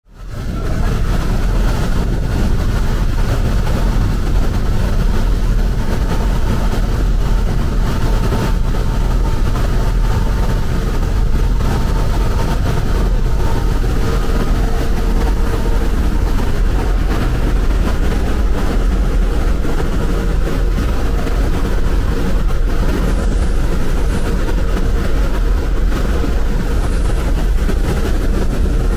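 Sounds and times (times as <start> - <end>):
bus engine and road rumble: 0.1 - 28.9
faint steady whine: 0.1 - 28.9.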